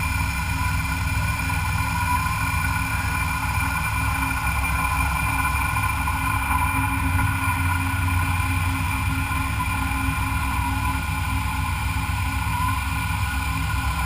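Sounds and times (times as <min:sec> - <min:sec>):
machine tool whine: 0:00.0 - 0:14.0.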